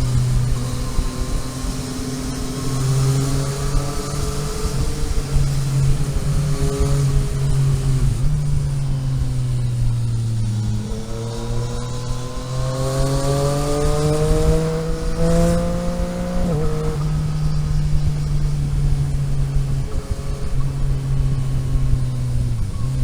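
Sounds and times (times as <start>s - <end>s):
car engine accelerating: 0.0s - 23.0s
road and wind noise: 0.0s - 23.0s.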